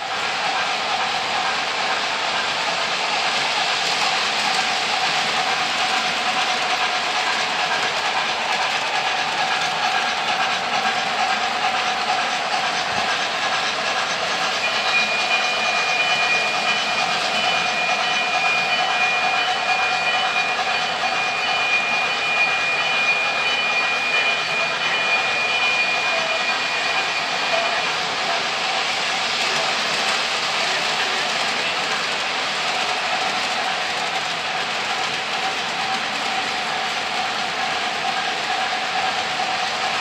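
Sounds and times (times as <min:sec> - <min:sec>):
model train wheels clattering: 0:00.0 - 0:40.0.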